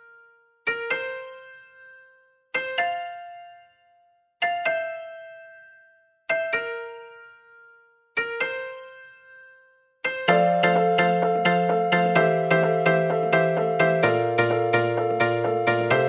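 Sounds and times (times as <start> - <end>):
piano-like keyboard notes: 0.0 - 16.0.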